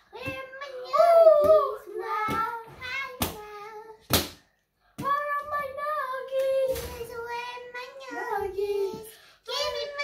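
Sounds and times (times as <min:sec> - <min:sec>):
child singing: 0:00.0 - 0:04.1, 0:05.0 - 0:10.0.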